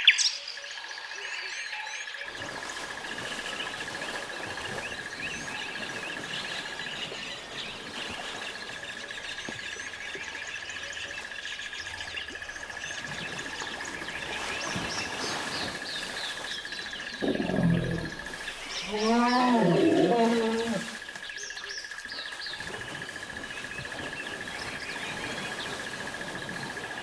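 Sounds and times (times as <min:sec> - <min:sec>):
birds chirping and twittering: 0:01.9 - 0:27.0.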